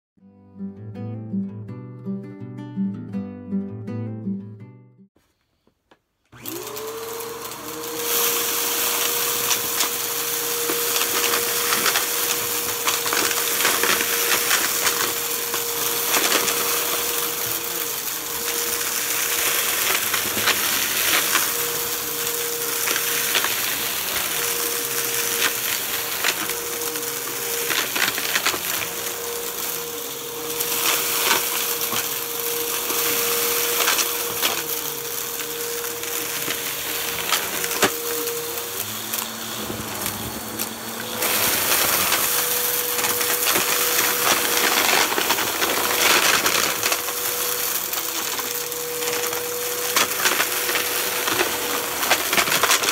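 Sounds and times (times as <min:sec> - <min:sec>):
vacuum cleaner motor whine: 0:06.3 - 0:52.9
debris crackling in vacuum: 0:06.4 - 0:52.9.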